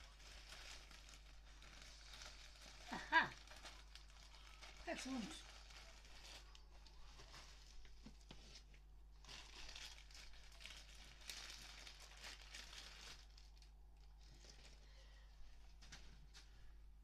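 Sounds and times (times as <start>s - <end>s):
packaging crinkling and rustling: 0.0s - 15.0s, 15.6s - 16.5s.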